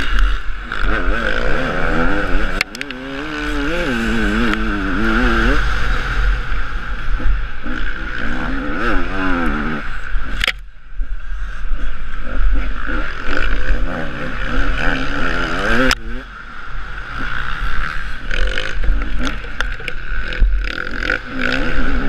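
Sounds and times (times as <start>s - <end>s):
motorcycle engine revving: 0.0s - 10.6s, 11.4s - 22.0s.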